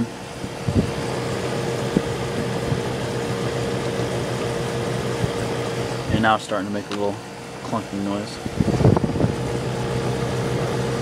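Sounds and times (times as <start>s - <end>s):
dehumidifier humming: 0.0s - 11.0s.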